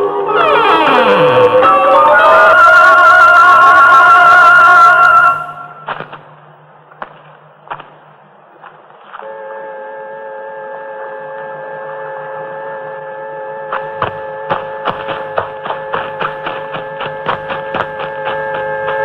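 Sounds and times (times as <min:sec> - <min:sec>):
steady electronic hum: 0:00.0 - 0:19.0.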